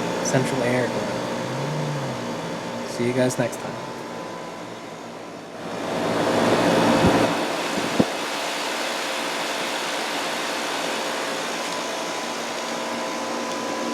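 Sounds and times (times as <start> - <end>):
air conditioner fan rushing: 0.0 - 13.9.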